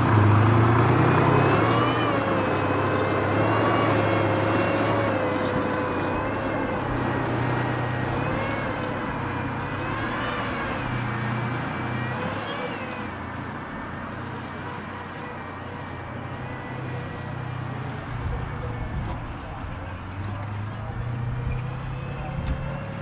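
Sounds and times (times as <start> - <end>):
diesel engine low drone: 0.0 - 23.0.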